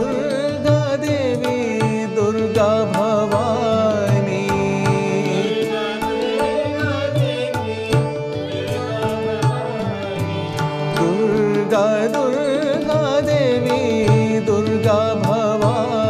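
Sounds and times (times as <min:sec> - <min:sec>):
harmonium holding steady tones: 0:00.0 - 0:16.0.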